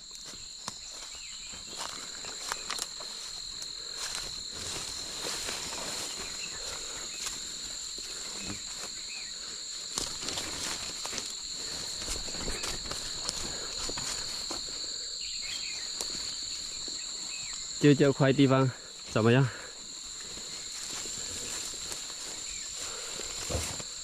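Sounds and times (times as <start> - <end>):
footsteps through undergrowth: 0.0 - 17.8, 19.0 - 24.0
leaves and twigs crunching: 0.0 - 17.8, 19.0 - 24.0
insects droning: 0.0 - 24.0.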